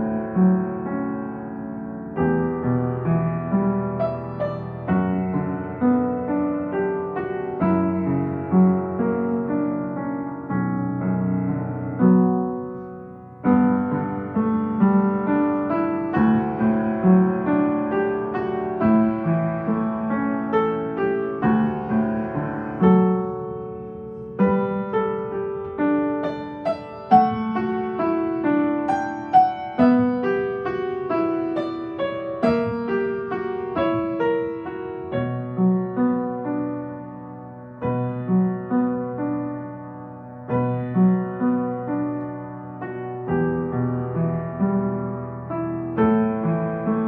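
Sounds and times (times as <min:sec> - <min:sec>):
slow piano melody: 0:00.0 - 0:47.0.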